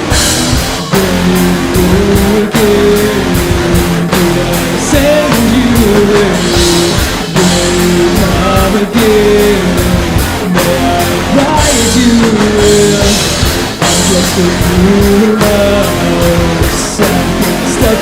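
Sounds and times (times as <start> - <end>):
drum kit: 0.0 - 18.0
guitar melody with bending notes: 0.0 - 18.0.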